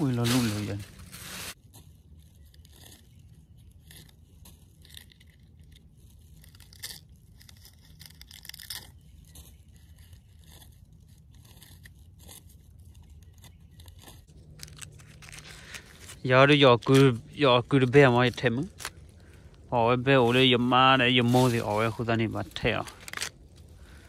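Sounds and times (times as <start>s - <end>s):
fungi crackling and tearing: 0.0s - 24.0s.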